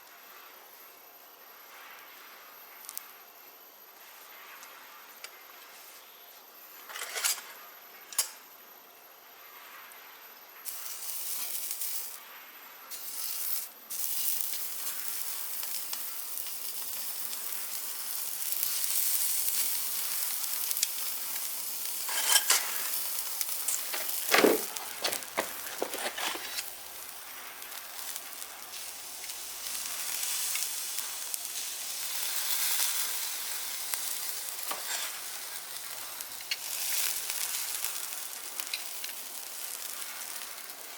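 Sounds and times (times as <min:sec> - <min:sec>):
meat sizzling on a grill: 0:00.1 - 0:06.2, 0:09.2 - 0:40.9.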